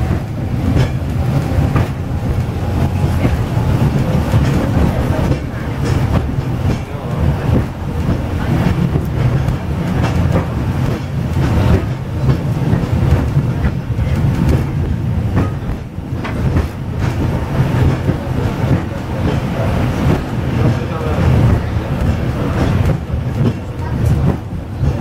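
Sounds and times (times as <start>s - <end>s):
tram car rumbling on rails: 0.0s - 25.0s.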